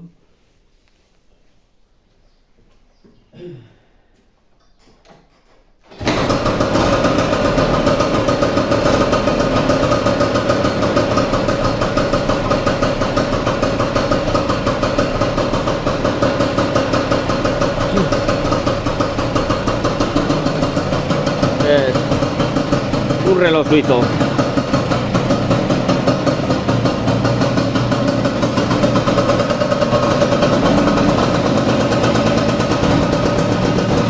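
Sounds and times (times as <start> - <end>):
scooter engine starting and idling: 5.8 - 34.0.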